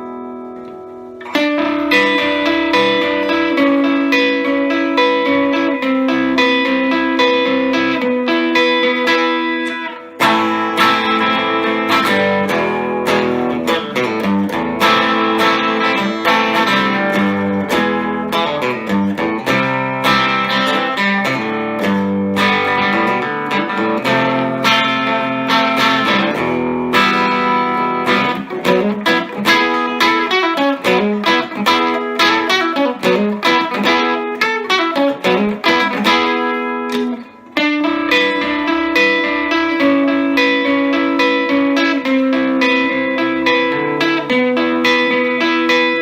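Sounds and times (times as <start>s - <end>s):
electric guitar notes and chords: 0.0s - 46.0s.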